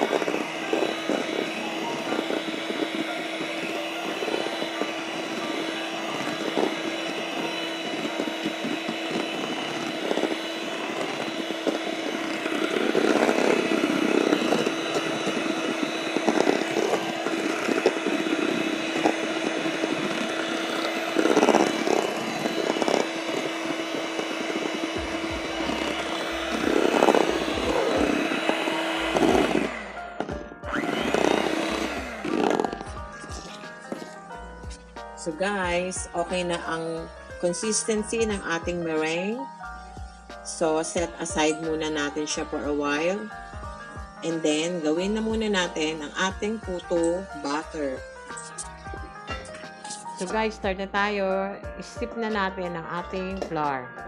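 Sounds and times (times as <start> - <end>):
electric mixer running: 0.0 - 54.0.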